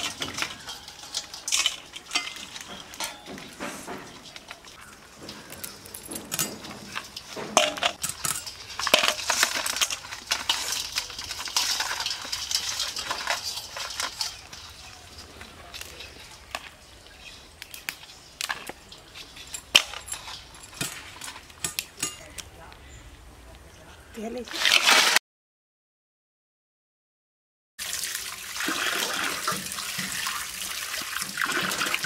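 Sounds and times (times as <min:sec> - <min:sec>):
utensils and dishes clinking: 0:00.0 - 0:22.4, 0:28.6 - 0:32.0.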